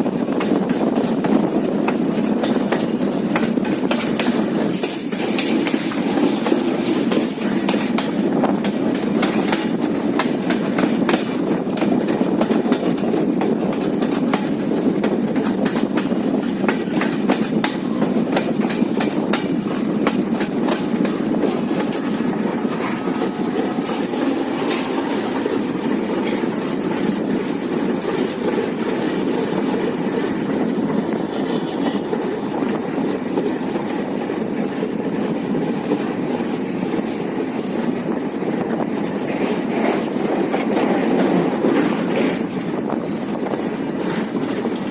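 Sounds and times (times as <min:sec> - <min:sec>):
train rumbling along track: 0:00.0 - 0:44.9.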